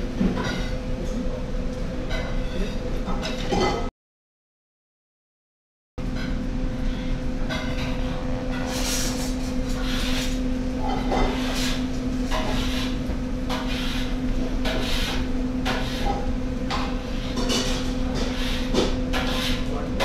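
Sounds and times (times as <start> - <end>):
low machine hum: 0.0 - 3.9, 6.0 - 20.0.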